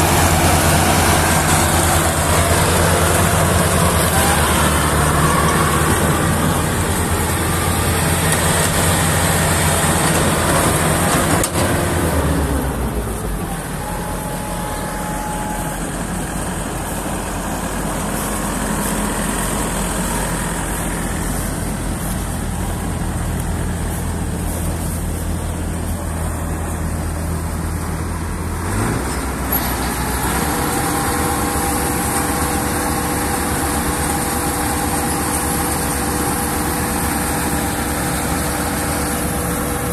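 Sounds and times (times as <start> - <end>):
auger whine: 0.0 - 39.9
diesel engine running: 0.0 - 39.9.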